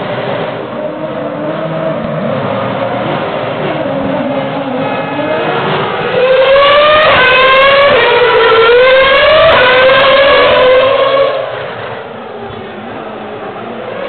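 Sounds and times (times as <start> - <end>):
racing car engine screaming: 0.5 - 14.0.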